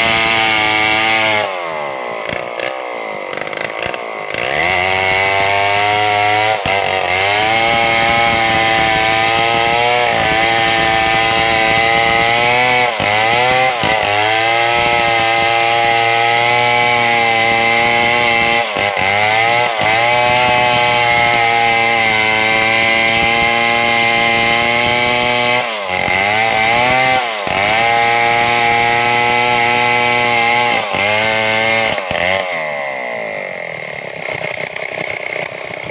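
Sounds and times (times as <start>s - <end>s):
chainsaw cutting a log: 0.0s - 35.9s.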